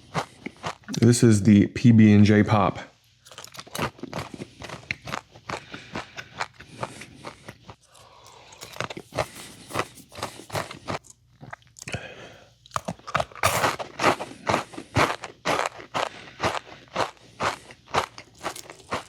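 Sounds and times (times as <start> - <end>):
crunching and chewing snack: 0.0 - 1.1, 3.2 - 19.0.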